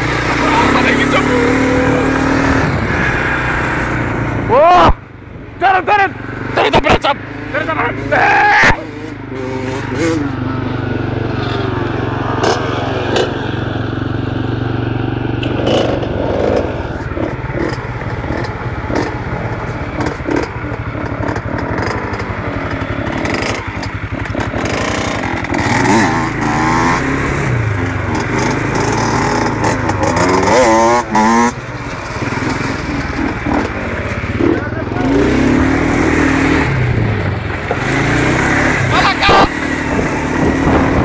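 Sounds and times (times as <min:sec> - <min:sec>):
small engine running and revving: 0:00.0 - 0:04.5, 0:06.2 - 0:41.0.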